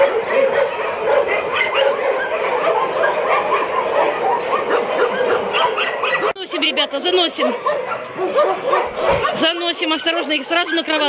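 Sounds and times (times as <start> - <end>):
many dogs barking and yelping: 0.0 - 11.0.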